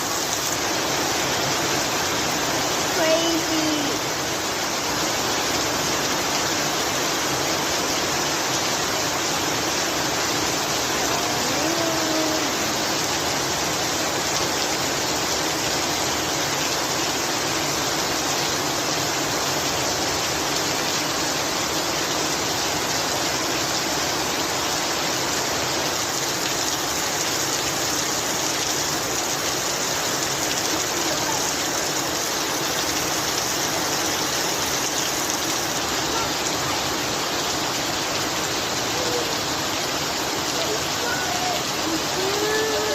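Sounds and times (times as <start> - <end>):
rain falling steadily: 0.0 - 42.9.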